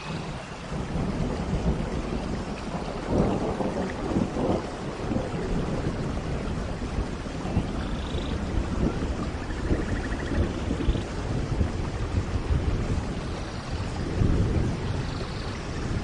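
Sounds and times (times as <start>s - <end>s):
steady rain: 0.0s - 16.0s
thunder rumble: 0.0s - 16.0s.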